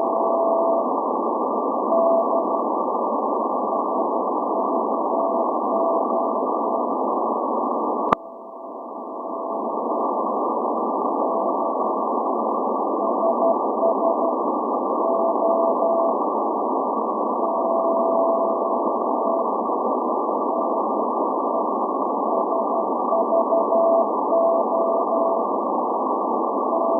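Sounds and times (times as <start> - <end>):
radio band noise hiss: 0.0 - 26.9.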